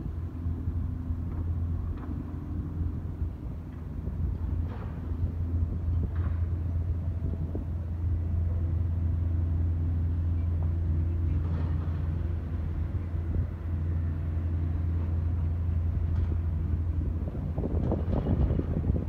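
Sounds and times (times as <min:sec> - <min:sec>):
low diesel engine drone: 0:00.0 - 0:19.0.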